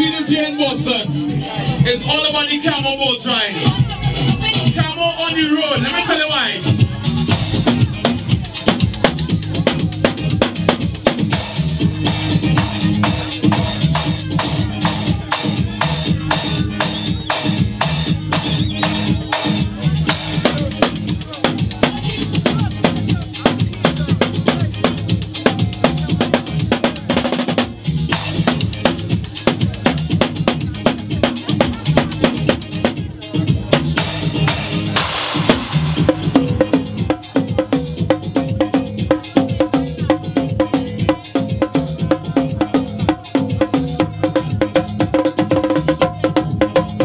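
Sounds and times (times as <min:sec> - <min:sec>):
drum kit played with sticks: 0:00.0 - 0:05.1, 0:05.7 - 0:47.0
music with steady bass line: 0:00.0 - 0:47.0.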